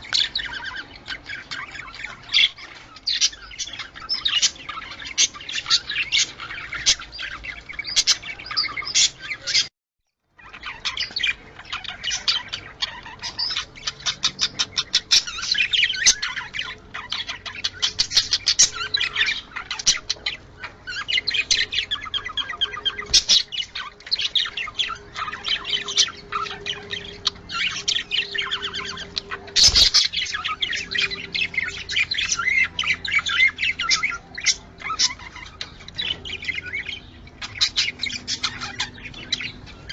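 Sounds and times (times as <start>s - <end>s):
budgerigars chattering and warbling: 0.0s - 9.7s, 10.4s - 39.9s.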